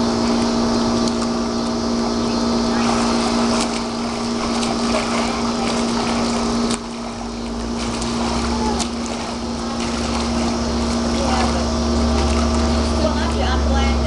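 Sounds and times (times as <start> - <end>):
steady machine hum: 0.0 - 14.0
swimmer splashing: 0.0 - 14.0.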